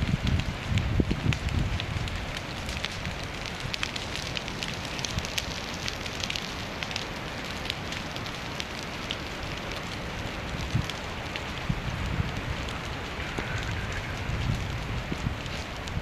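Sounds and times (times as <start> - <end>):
fire crackling and hissing: 0.0 - 16.0.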